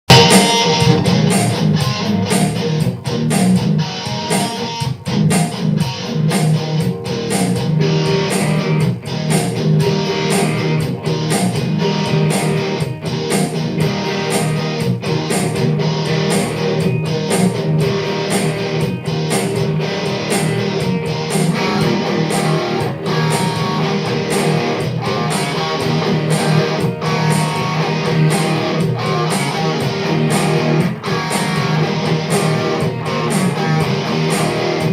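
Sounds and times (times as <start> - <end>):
guitar music: 0.1 - 34.9.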